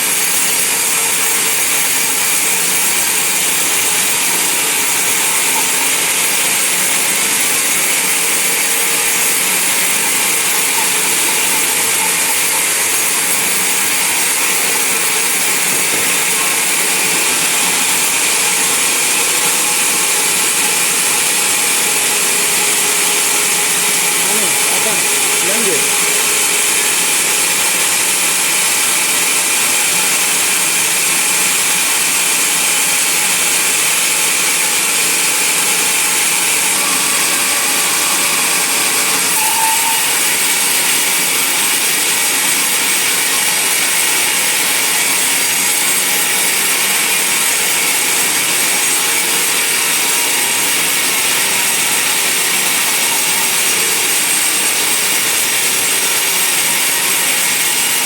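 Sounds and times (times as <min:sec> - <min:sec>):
band saw whining through log: 0:00.0 - 0:58.0.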